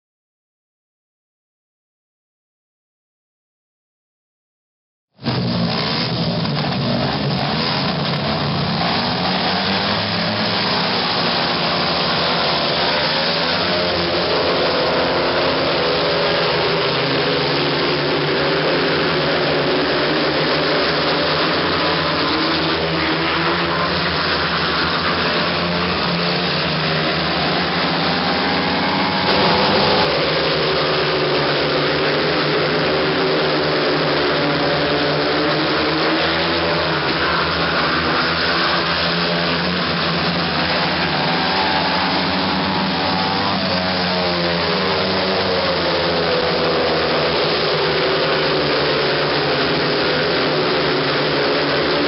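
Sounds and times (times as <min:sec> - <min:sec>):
motorcycles racing: 0:05.2 - 0:52.0.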